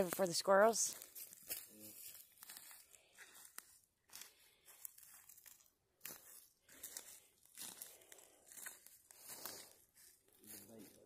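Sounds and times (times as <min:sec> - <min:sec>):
footsteps in dry leaves: 0:00.0 - 0:11.0.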